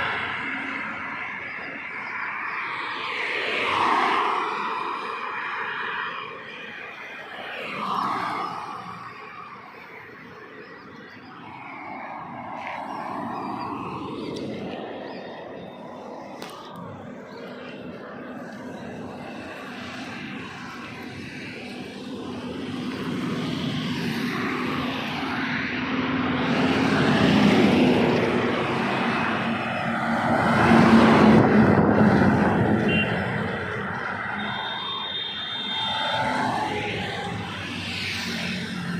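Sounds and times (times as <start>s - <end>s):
trucks passing on road: 0.0s - 38.9s.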